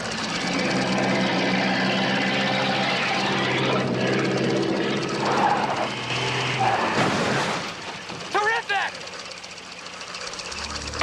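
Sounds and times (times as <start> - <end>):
car engine driving off: 0.0 - 11.0.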